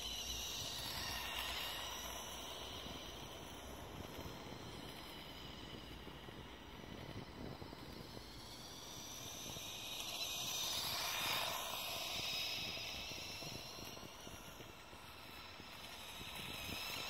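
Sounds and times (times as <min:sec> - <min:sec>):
toy motorcycle electric motor whining: 0:00.0 - 0:17.0.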